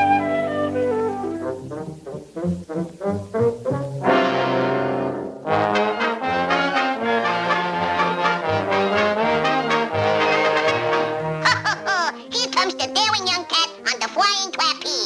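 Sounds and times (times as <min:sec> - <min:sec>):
brass-led orchestral cartoon music: 0:00.0 - 0:14.0.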